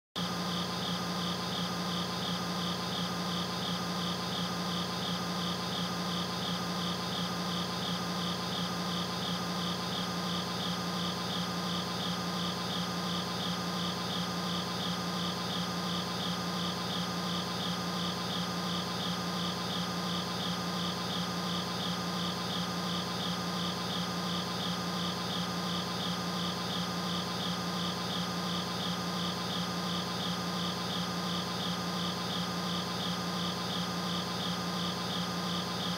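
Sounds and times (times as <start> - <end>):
night insects chirping: 0.2 - 35.9.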